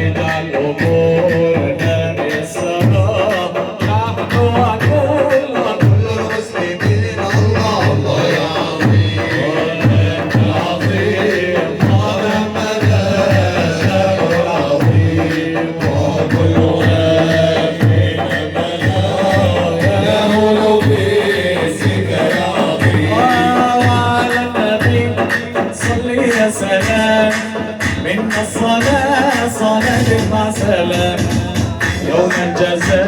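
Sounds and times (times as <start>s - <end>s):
drums beating steady rhythm: 0.0s - 33.0s.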